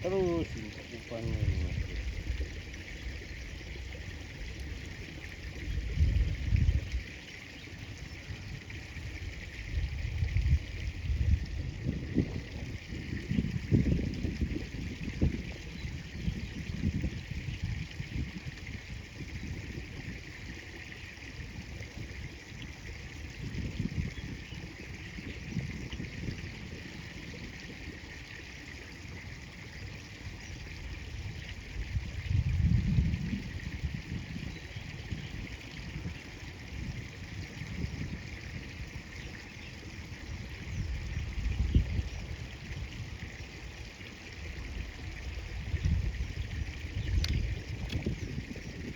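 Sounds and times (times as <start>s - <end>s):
river water flowing: 0.0s - 48.9s.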